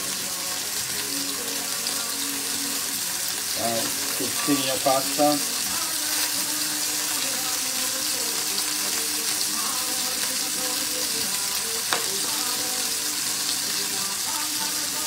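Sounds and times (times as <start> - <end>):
pasta sizzling in frying pan: 0.0 - 15.0.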